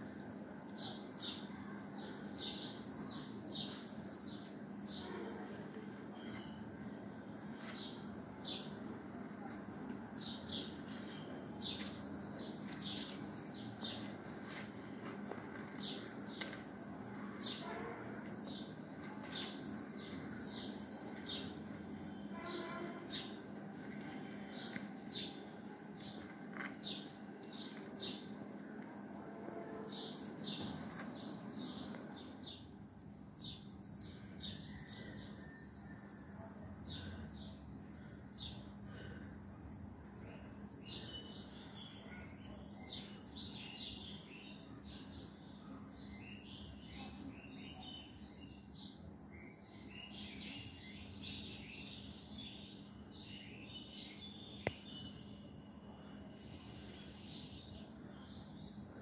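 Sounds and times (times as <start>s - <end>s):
faint steady hum: 0.0s - 59.0s
small birds chirping: 0.7s - 17.7s, 18.4s - 29.0s, 33.4s - 35.8s, 36.6s - 59.0s.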